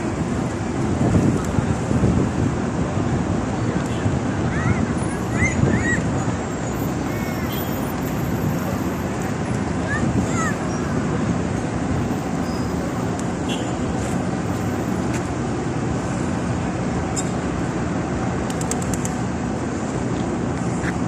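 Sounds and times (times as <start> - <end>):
city traffic noise: 0.0 - 21.0.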